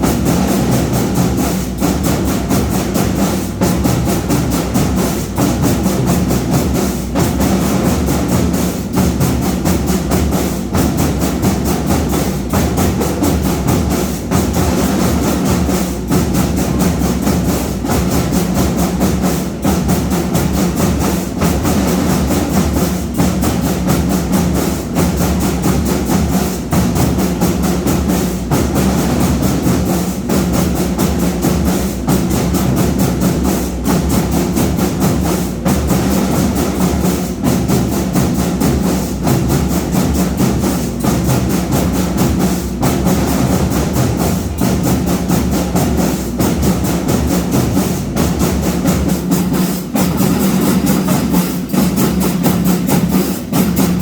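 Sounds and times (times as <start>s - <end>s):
drums keeping fast beat: 0.0s - 54.0s
marching band playing: 0.0s - 54.0s.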